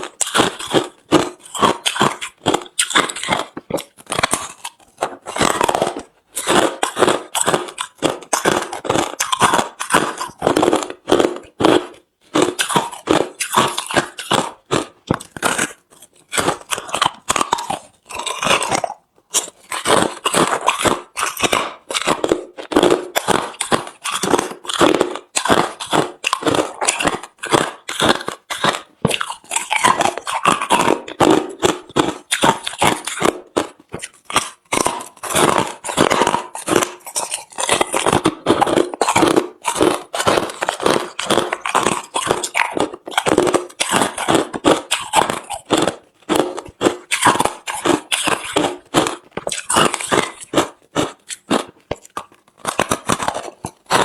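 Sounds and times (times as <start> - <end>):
chewing crushed ice: 0.0 - 54.0.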